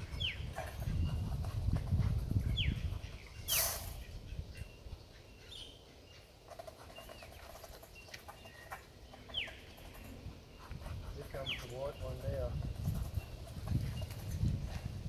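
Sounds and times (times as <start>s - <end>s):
birds whistling: 0.0s - 1.3s, 2.4s - 6.3s, 6.9s - 14.2s.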